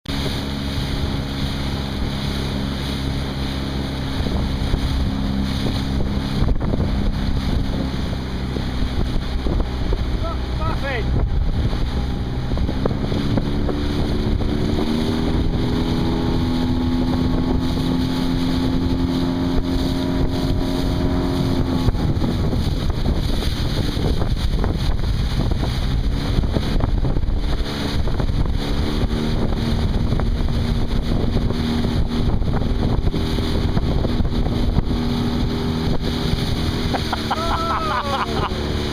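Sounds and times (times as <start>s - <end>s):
outboard engine running: 0.0s - 38.9s
water rushing: 0.1s - 38.9s
wind buffeting microphone: 0.1s - 38.9s.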